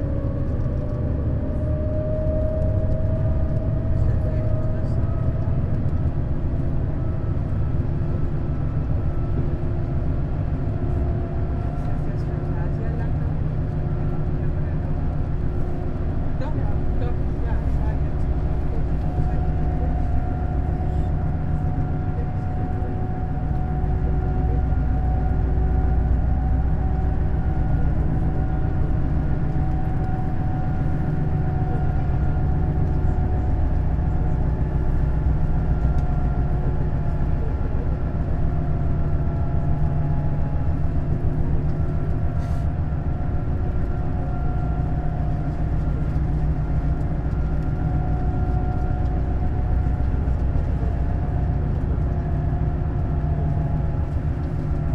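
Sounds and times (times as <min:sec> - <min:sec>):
coach engine droning: 0:00.0 - 0:54.9
drivetrain whine: 0:00.0 - 0:54.9.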